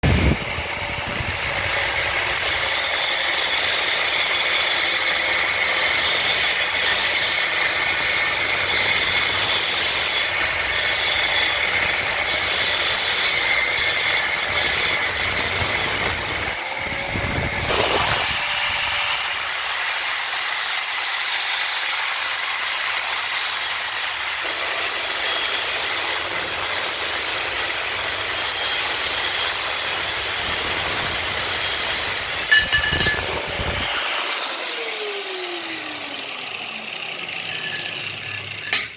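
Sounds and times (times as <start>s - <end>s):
cut-off disc cutting metal: 0.0s - 38.9s.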